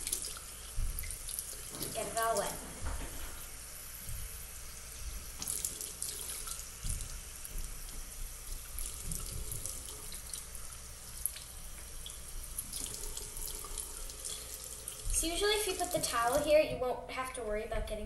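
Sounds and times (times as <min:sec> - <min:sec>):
faucet running into sink: 0:00.0 - 0:16.5.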